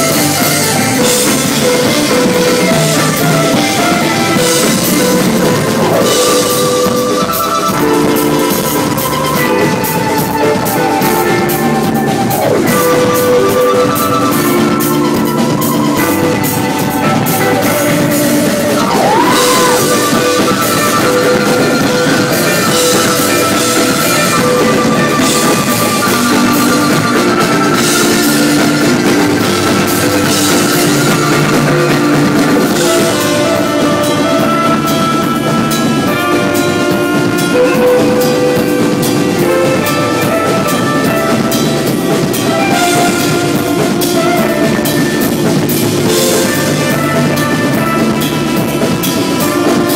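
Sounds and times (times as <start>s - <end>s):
drum kit: 0.0s - 49.9s
keyboard: 0.0s - 49.9s
saxophones holding long notes: 0.0s - 49.9s.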